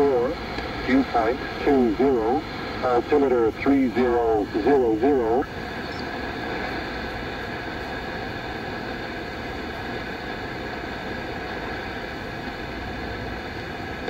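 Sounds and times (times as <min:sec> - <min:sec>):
faint steady radio tones: 0:00.0 - 0:14.0
shortwave radio static and hiss: 0:00.0 - 0:14.0.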